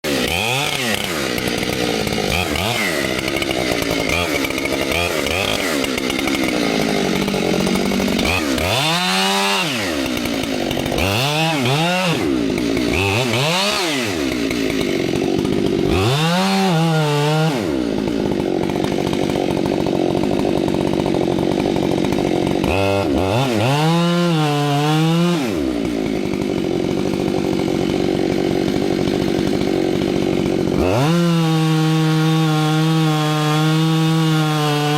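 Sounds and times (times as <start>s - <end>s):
chainsaw cutting tree trunk: 0.0s - 34.9s.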